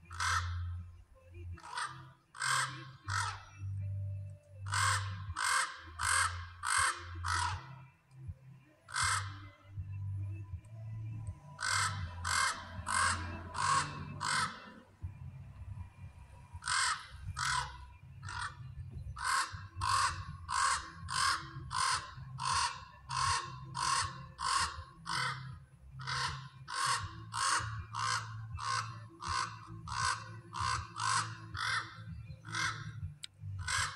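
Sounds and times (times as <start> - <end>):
raven cawing: 0.0 - 0.8, 1.6 - 3.7, 4.6 - 7.9, 8.9 - 9.6, 11.4 - 15.0, 16.6 - 33.9.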